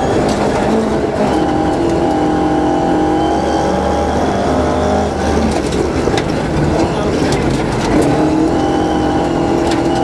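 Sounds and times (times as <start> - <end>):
rally car engine at high revs: 0.0 - 10.0.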